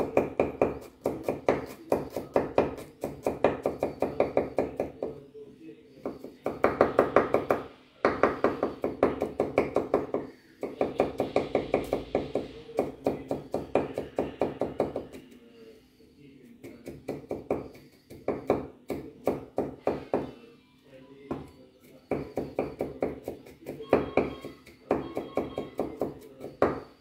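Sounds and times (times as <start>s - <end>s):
knife chopping on wooden board: 0.0s - 5.1s, 6.0s - 15.3s, 16.6s - 20.3s, 22.1s - 26.8s.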